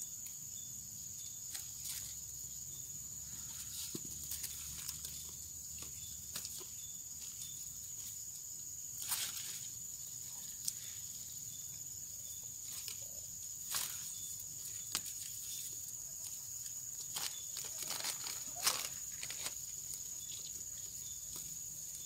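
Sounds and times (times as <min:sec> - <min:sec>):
scuffs and rustles on soil: 0:01.4 - 0:02.3, 0:03.3 - 0:11.1, 0:12.3 - 0:22.0.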